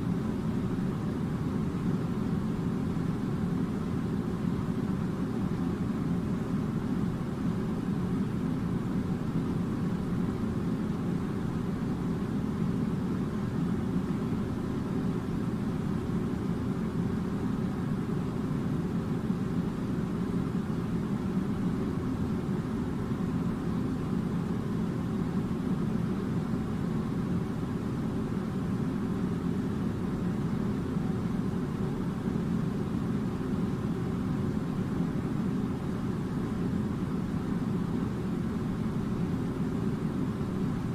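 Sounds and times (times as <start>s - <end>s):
air conditioner running: 0.0s - 40.9s.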